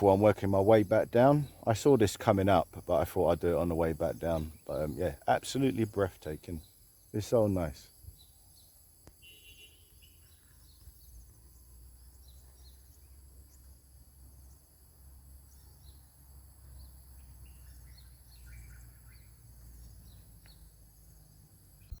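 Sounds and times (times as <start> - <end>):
rapid bird trill: 0.0 - 21.9
bird chirps: 0.0 - 22.0.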